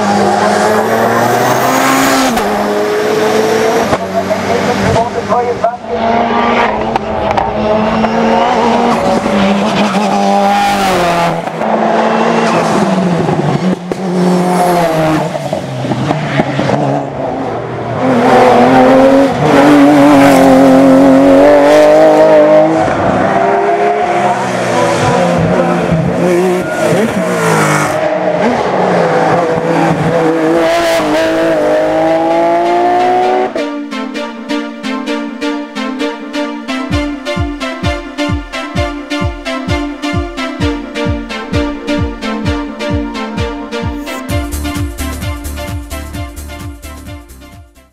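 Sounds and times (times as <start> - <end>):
race car engines revving: 0.0 - 47.2.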